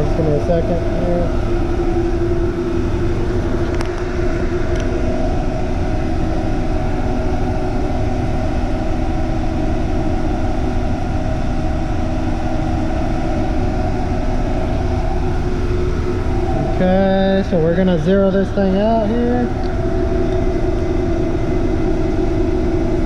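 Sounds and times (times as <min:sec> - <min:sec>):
hvac equipment drone: 0:00.0 - 0:23.0.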